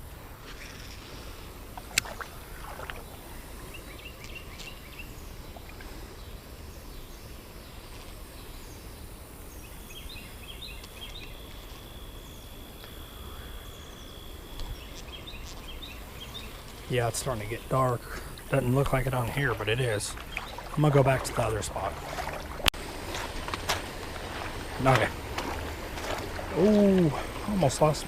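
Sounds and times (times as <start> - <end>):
high insect drone: 0.0 - 28.0
small birds chirping: 0.6 - 28.0.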